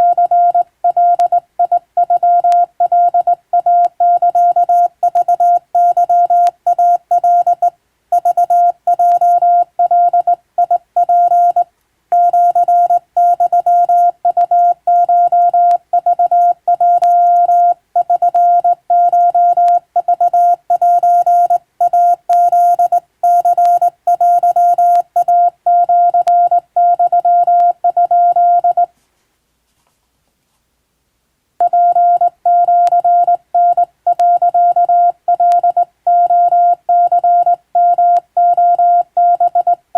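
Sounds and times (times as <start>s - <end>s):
morse code tone: 0.0s - 28.9s, 31.6s - 39.8s.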